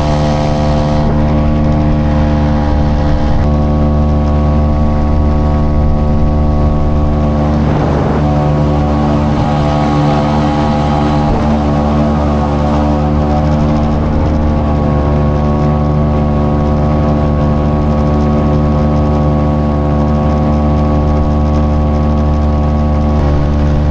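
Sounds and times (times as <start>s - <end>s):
outboard motor running: 0.0s - 23.8s.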